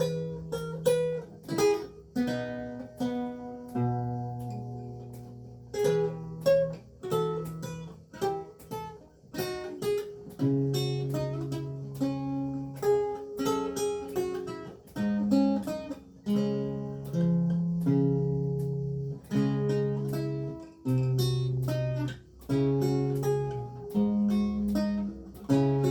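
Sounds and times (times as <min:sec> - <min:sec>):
lute plucked notes and chords: 0:00.0 - 0:25.9.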